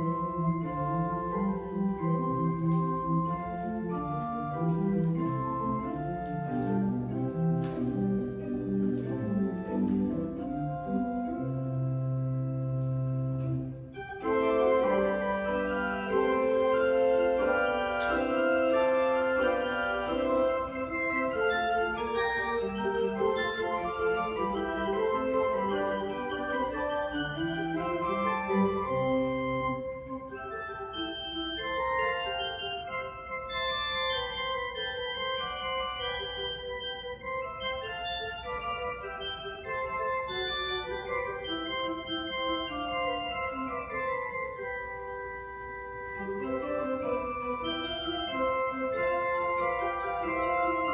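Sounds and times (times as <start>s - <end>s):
organ playing sustained chords: 0.0s - 50.9s.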